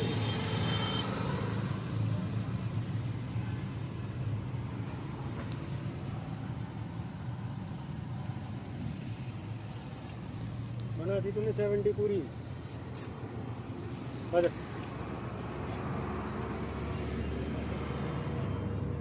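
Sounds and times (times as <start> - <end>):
motor vehicle rumble: 0.0 - 19.0.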